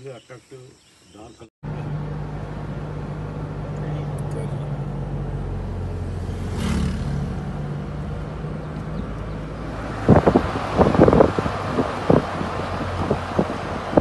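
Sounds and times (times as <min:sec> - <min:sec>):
car engine and road rumble: 0:01.6 - 0:14.0.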